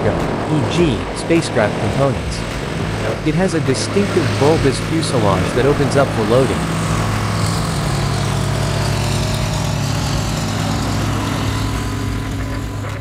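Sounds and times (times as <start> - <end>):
broad rushing noise: 0.0 - 13.0
turboprop engines droning: 0.0 - 13.0.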